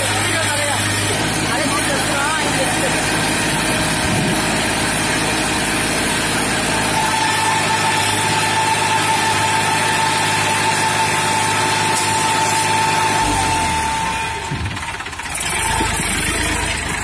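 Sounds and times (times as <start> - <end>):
tractor diesel engine running: 0.0 - 17.0
steady high whine: 1.0 - 15.3.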